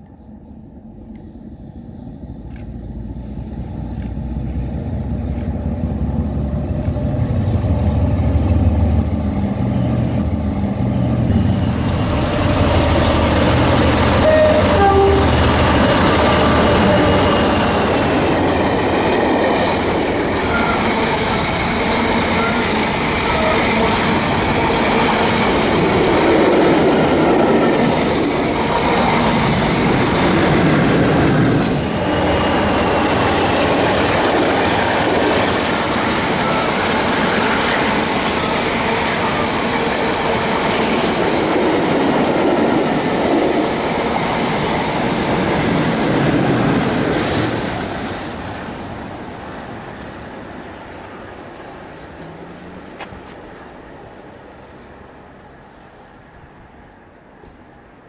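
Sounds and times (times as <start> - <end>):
diesel locomotive engine rumbling: 0.0 - 58.0.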